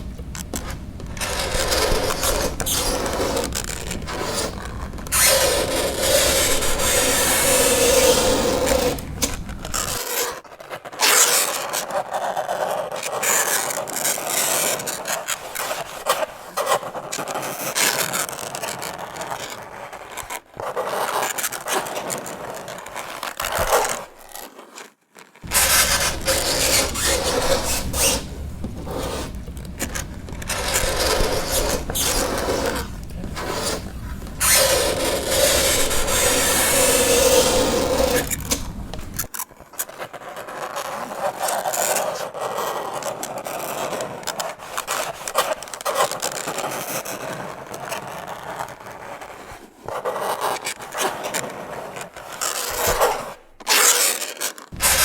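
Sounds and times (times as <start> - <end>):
fingernails scraping a chalkboard: 0.0 - 10.4, 11.0 - 55.0.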